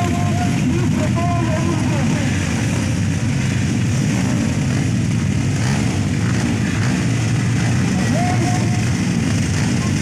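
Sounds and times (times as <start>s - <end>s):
motocross bike engines running: 0.0s - 10.0s.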